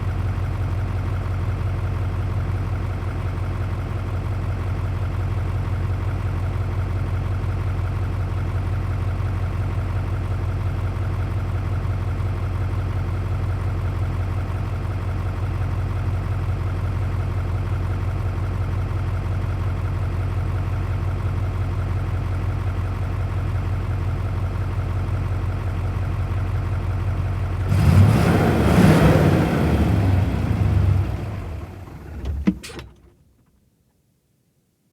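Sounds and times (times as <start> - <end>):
diesel engine idling: 0.1 - 32.6.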